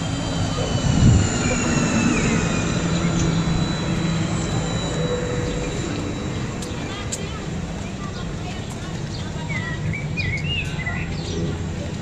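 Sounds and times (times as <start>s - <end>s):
train running rumble: 0.0s - 12.0s
train traction motors whining: 0.0s - 12.0s.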